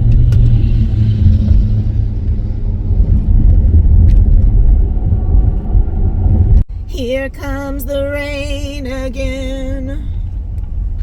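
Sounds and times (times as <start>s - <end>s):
minivan road and engine rumble: 0.0s - 11.0s.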